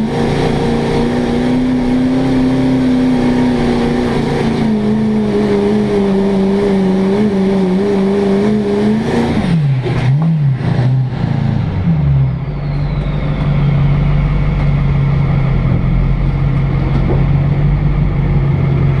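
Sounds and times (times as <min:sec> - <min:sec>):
diesel truck engine revving: 0:00.0 - 0:19.0.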